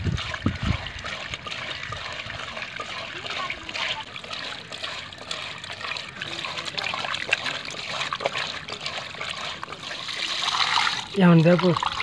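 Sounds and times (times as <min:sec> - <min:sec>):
wet rubbing and splashing: 0:00.0 - 0:12.0.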